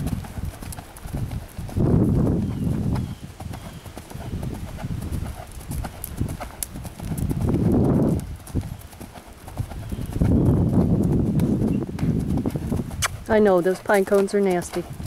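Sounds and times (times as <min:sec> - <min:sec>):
horse hoofbeats on grass: 0:00.0 - 0:15.0.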